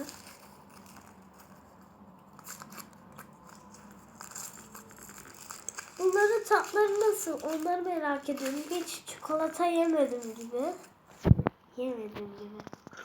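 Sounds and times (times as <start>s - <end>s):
packaging clicks and rustles: 0.0s - 11.0s.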